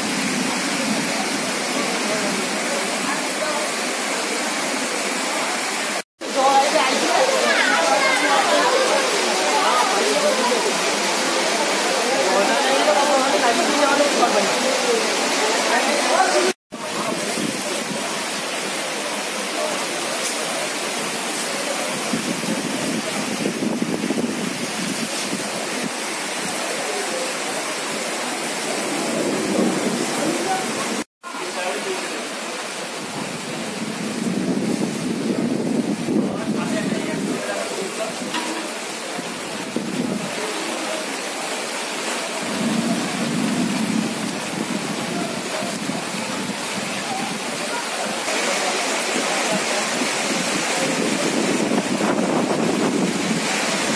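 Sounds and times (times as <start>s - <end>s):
floodwater rushing: 0.0s - 53.9s
steady rain falling: 0.0s - 53.9s.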